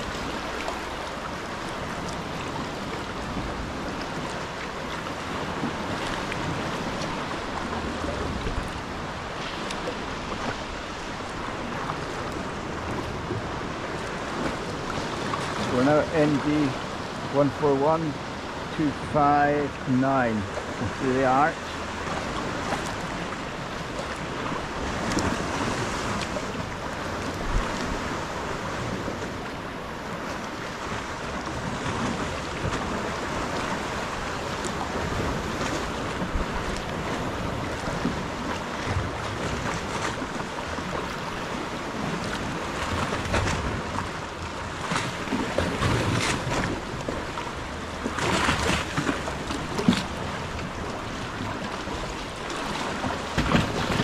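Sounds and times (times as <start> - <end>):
paddle splashing: 0.0 - 54.0
water lapping around hull: 0.0 - 54.0
wind on microphone: 0.0 - 54.0.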